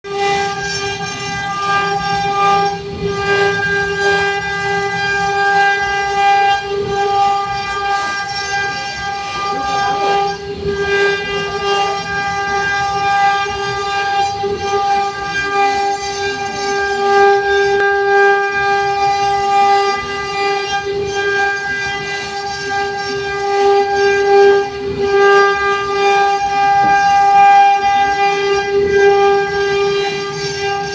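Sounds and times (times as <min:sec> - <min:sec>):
router spindle whining: 0:00.0 - 0:30.9.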